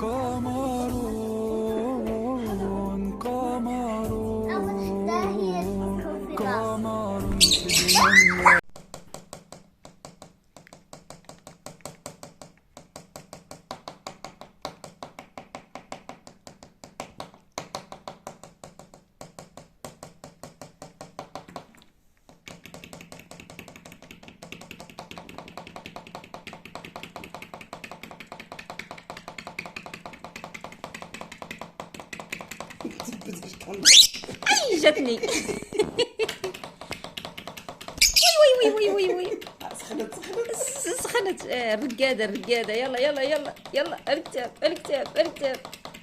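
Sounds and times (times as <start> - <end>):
rapid light tapping: 8.7 - 46.0.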